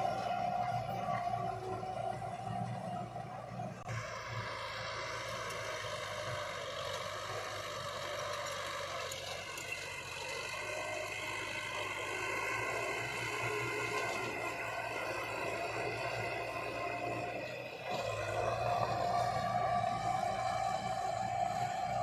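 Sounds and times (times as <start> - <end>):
heavy diesel machine engine: 0.0 - 22.0.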